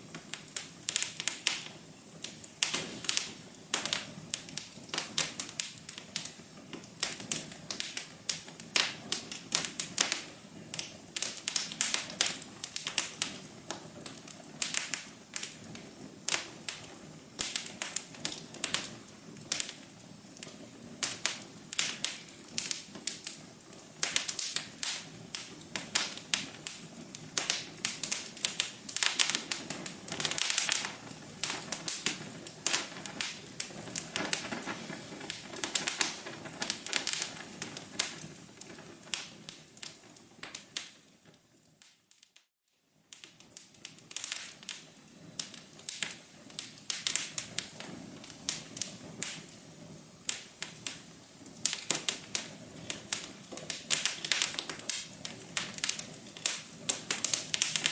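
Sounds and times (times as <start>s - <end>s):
sharp fire pops: 0.0s - 42.5s, 43.1s - 57.9s
fireplace fire crackling: 0.0s - 57.9s.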